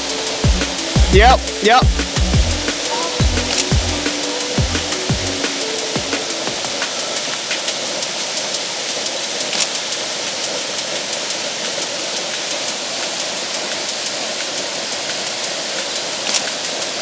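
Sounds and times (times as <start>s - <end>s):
crisp high ticks: 0.0s - 17.0s
waterfall rushing: 0.0s - 17.0s.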